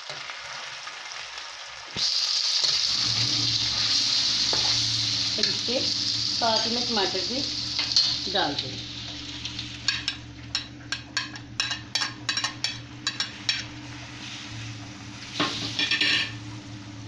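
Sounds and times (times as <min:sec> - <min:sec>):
chicken sizzling in pan: 0:00.0 - 0:17.0.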